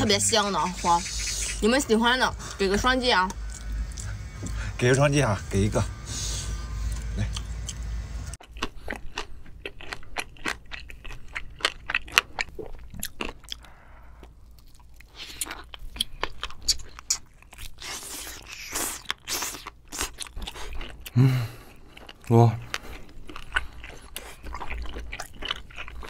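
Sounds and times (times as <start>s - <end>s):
wet chewing with crunches: 0.2s - 4.6s, 6.6s - 26.0s.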